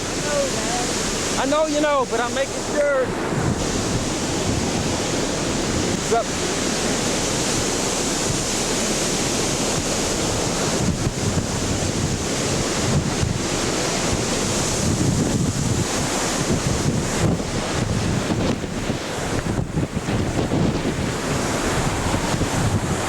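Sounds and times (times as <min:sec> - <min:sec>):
storm wind rushing: 0:00.0 - 0:23.0
wind buffeting microphone: 0:00.0 - 0:23.0.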